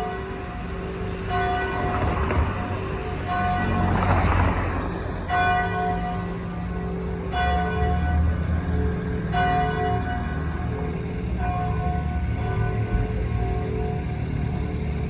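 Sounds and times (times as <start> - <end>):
church bell ringing: 0.0 - 15.0.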